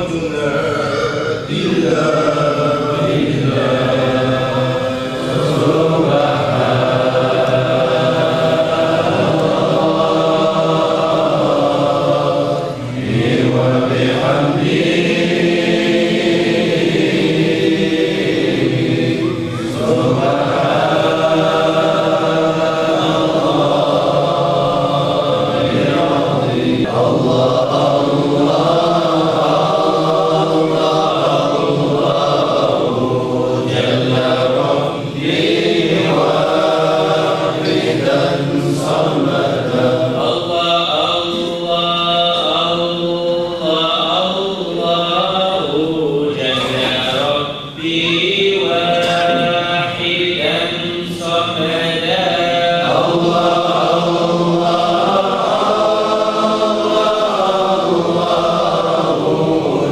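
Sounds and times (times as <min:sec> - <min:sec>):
men chanting together: 0:00.0 - 0:59.9.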